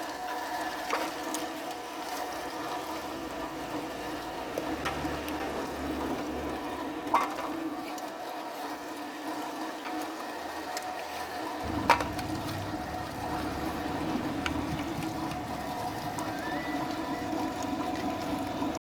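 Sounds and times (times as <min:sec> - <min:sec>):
meat mincer motor hum: 0:00.0 - 0:18.8.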